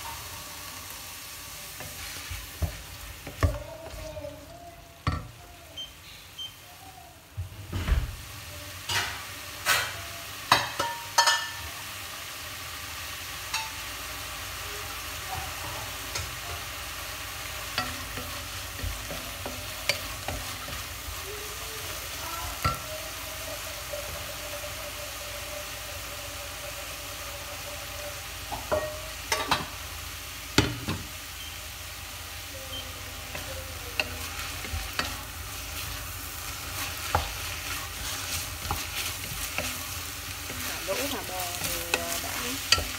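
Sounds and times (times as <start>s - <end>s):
food sizzling in oil: 0.0s - 42.9s.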